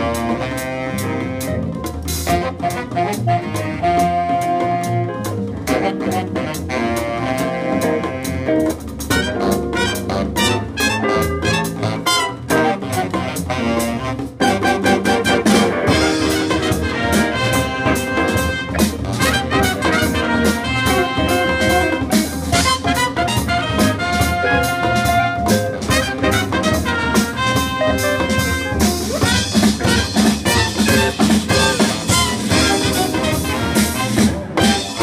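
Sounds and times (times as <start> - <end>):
jazz ensemble playing: 0.0 - 35.0.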